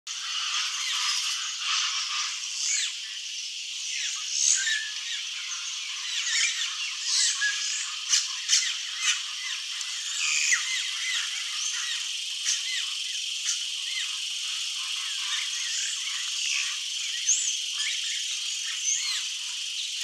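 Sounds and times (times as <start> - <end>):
birds chattering chorus: 0.1 - 20.0.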